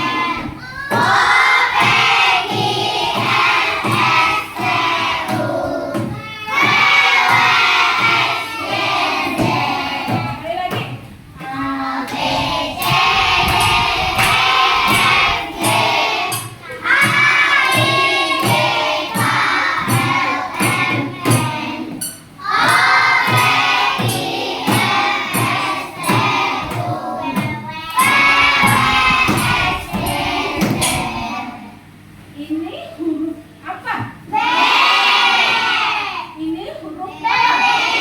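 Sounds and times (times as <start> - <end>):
children singing in chorus: 0.0 - 10.4, 11.4 - 31.8, 34.3 - 36.3, 37.2 - 38.0
steady beat: 0.0 - 31.7.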